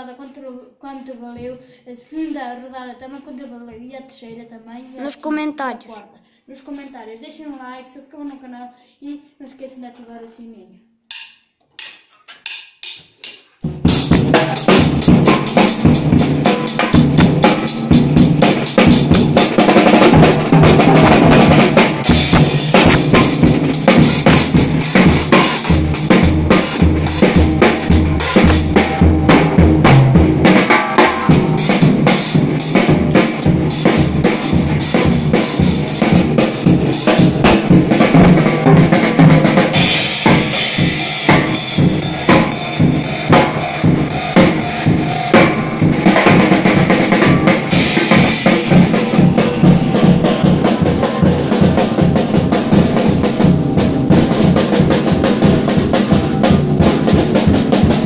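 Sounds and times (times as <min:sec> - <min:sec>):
acoustic drum kit played loudly: 0:11.1 - 0:58.0.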